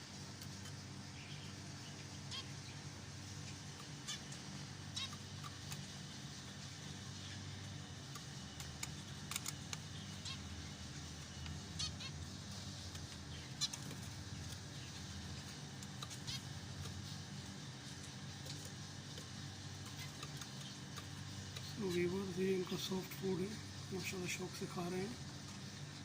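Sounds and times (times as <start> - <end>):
steady low hum: 0.0 - 26.0
finches calling: 0.7 - 25.8.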